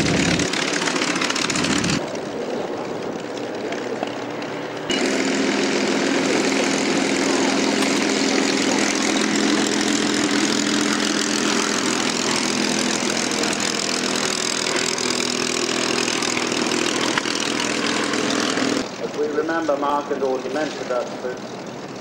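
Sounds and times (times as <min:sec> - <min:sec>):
propeller plane engine idling: 0:00.0 - 0:22.0.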